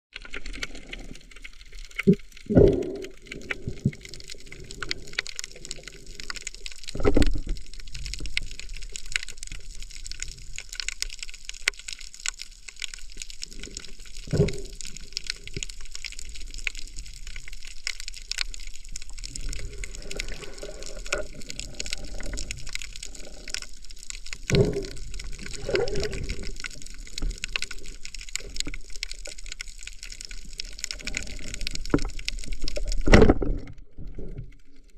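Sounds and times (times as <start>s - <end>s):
underwater hiss and crackling: 0.1s - 34.9s.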